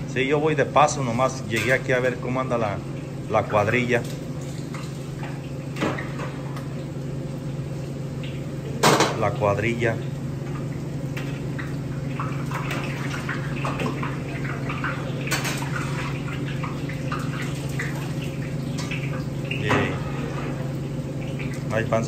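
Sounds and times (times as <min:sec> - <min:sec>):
steady low hum: 0:00.0 - 0:22.0
watery liquid sounds: 0:00.7 - 0:22.0.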